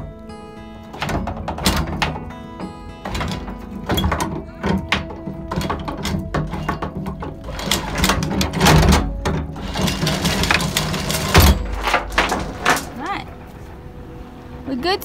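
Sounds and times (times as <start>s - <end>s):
windlass motor running: 0.0s - 15.0s
chain links clanking: 0.8s - 13.6s.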